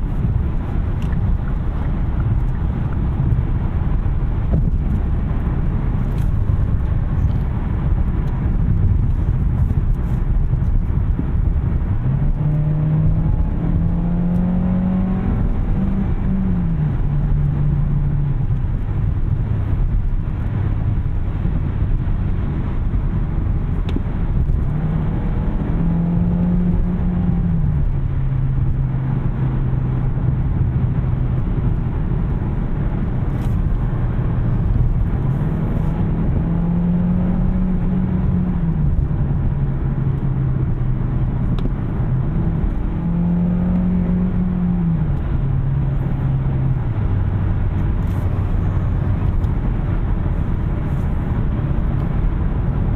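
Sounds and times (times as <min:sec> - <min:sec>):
car engine hum: 0:00.0 - 0:52.9
road and tyre noise: 0:00.0 - 0:52.9.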